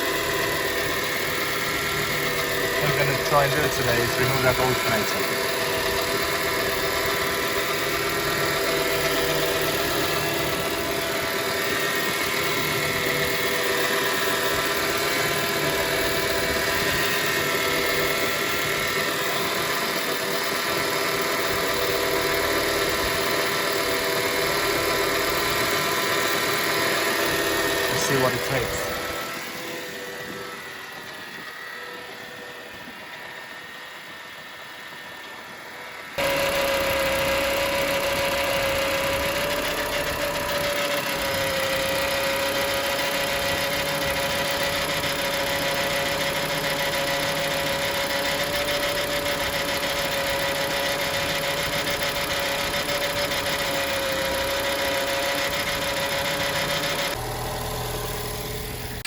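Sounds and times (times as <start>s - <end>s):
car engine idling: 0.0s - 31.0s, 36.2s - 59.0s
bearing whine: 0.0s - 59.0s.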